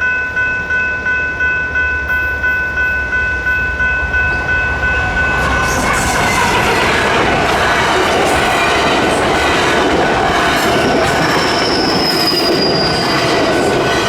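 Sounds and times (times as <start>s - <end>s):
crossing bell dinging: 0.0s - 14.0s
train rushing past: 0.0s - 14.0s.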